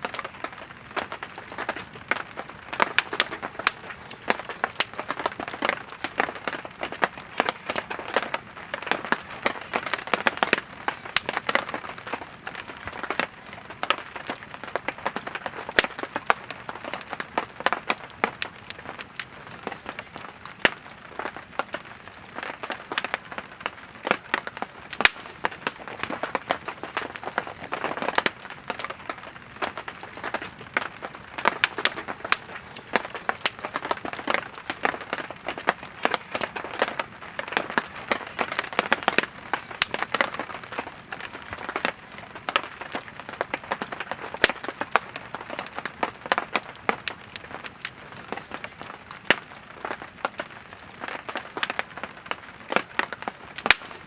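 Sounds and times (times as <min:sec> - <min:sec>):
burning wood crackling: 0:00.0 - 0:54.0.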